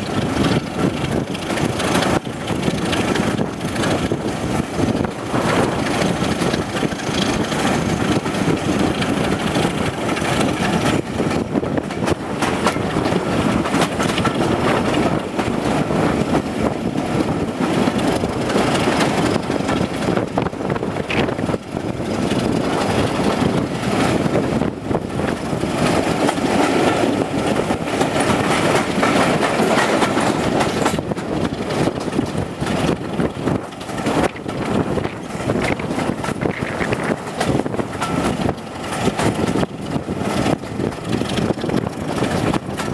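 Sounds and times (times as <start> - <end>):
diesel locomotive working: 0.0 - 42.9
rushing air: 0.0 - 42.9
train wheels rumbling on rails: 0.0 - 42.9.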